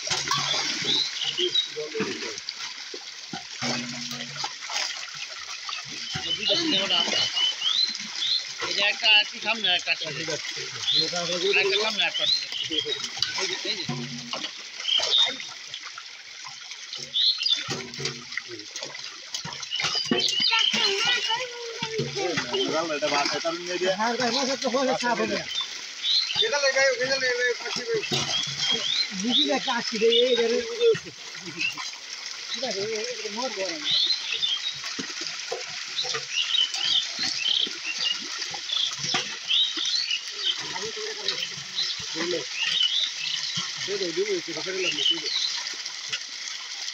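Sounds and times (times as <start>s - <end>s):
pond water splashing and sloshing: 0.0s - 46.9s
small birds chirping: 0.3s - 1.9s, 5.7s - 15.8s, 16.8s - 18.1s, 19.4s - 30.8s, 31.4s - 35.0s, 35.7s - 45.8s.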